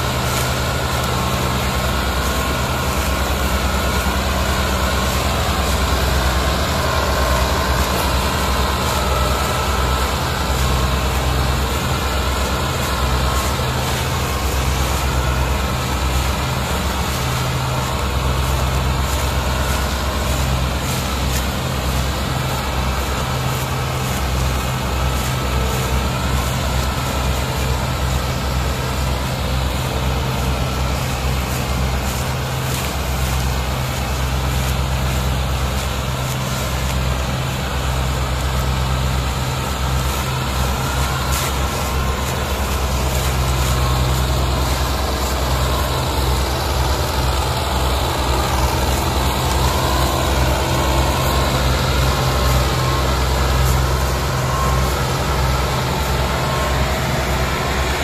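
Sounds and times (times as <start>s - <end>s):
tractor diesel engine pulsing: 0.0s - 58.0s.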